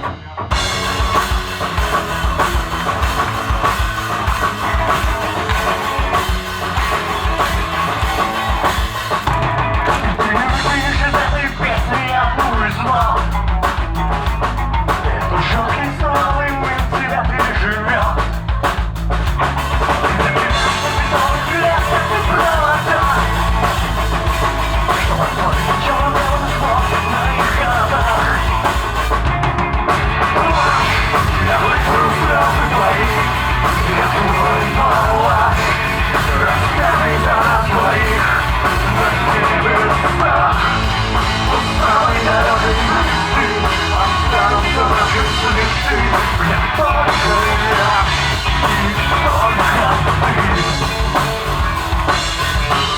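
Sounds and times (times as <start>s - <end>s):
drum kit steady beat: 0.0s - 52.9s
live rock band playing: 0.0s - 52.9s.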